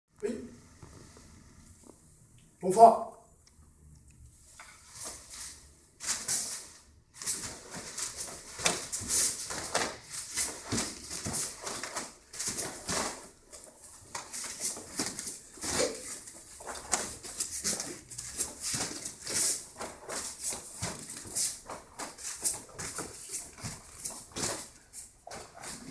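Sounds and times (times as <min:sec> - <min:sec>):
bare feet shifting on mats: 0:04.6 - 0:25.9
wooden sticks whooshing through air: 0:05.0 - 0:25.9.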